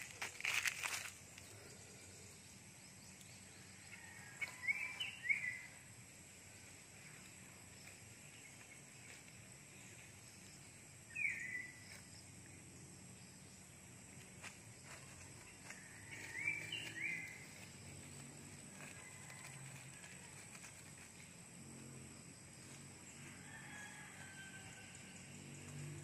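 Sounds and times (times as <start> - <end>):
faint outdoor ambience: 0.0 - 26.0.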